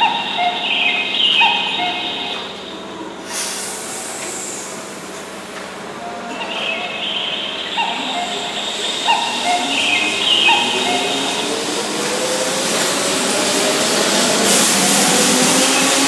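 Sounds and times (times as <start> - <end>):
moving train cars: 0.0 - 16.0.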